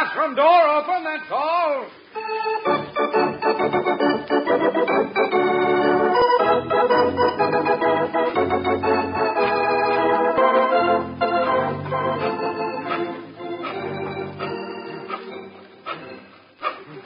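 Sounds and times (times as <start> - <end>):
organ playing held chords: 2.0 - 17.0.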